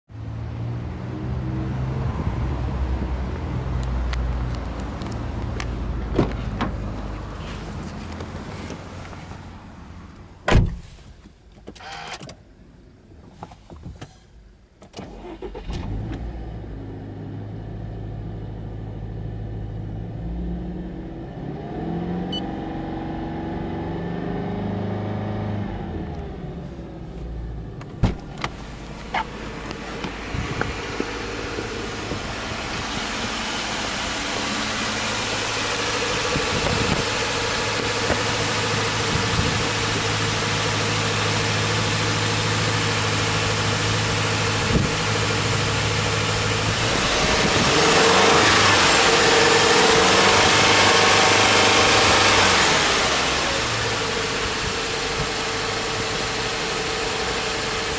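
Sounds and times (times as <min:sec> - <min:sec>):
car engine starting and idling: 0:00.2 - 0:57.9.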